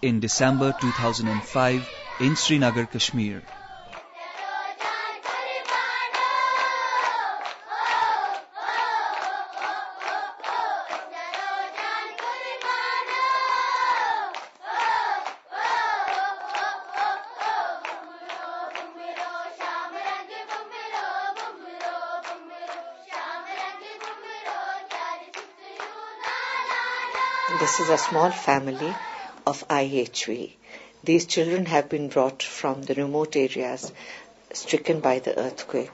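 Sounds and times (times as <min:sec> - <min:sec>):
children singing: 0:00.1 - 0:29.5
children clapping in rhythm: 0:00.4 - 0:29.3.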